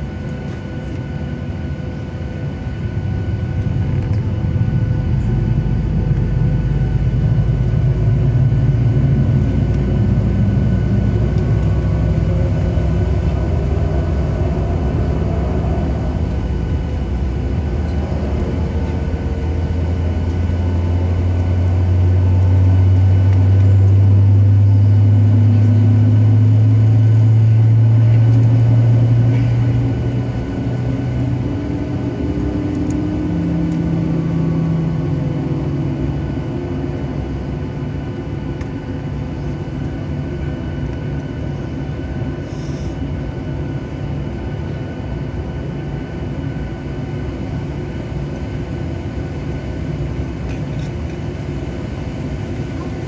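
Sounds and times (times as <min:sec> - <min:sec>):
jet engines humming and whining: 0:00.0 - 0:53.0.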